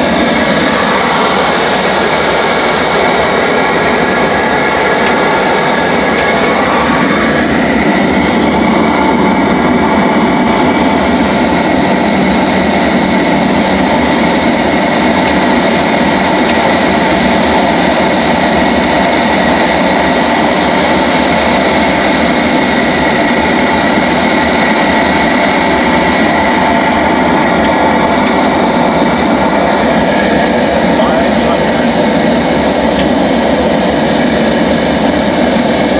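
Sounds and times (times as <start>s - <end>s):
plane engine in cabin: 0.0s - 35.9s
rushing air: 0.0s - 35.9s.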